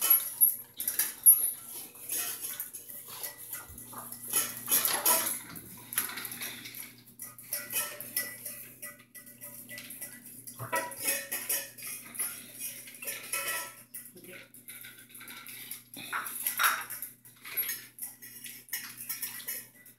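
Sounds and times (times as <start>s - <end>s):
dog bowls clinking and scraping: 0.0s - 19.9s.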